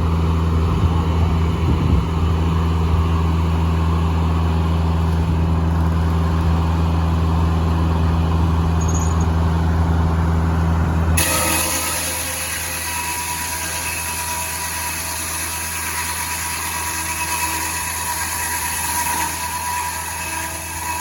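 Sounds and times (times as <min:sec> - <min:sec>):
engine running steady drone: 0:00.0 - 0:21.0.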